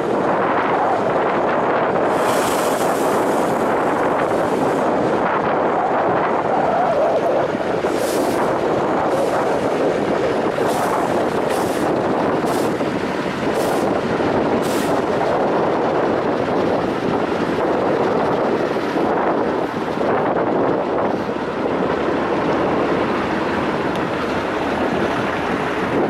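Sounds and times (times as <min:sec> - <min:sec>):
truck engine running under load: 0:00.0 - 0:26.0.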